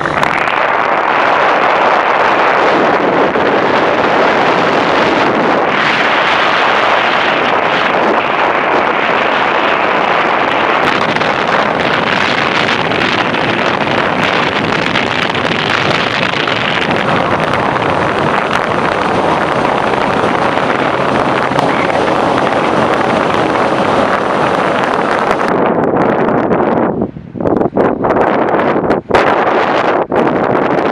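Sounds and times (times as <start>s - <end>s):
vehicle road and wind noise: 0.0s - 30.9s.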